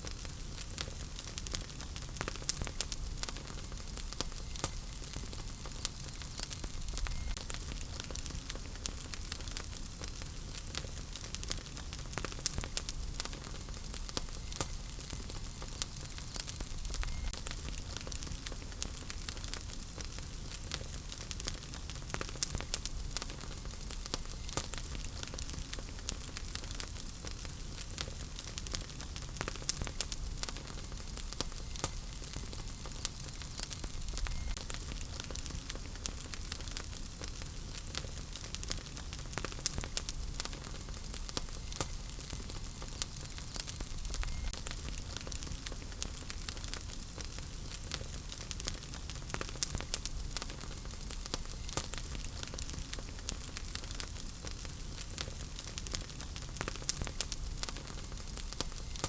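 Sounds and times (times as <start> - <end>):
fire crackling and popping: 0.0 - 59.0
flames rumbling and hissing: 0.0 - 59.0.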